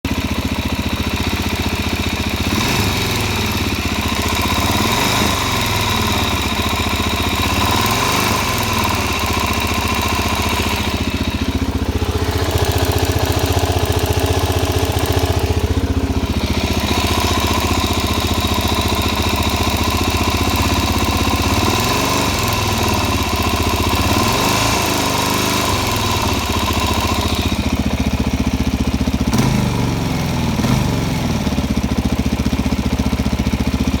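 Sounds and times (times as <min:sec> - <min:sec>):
engine ticking: 0:00.0 - 0:34.0
motorcycle engine idling: 0:00.0 - 0:34.0.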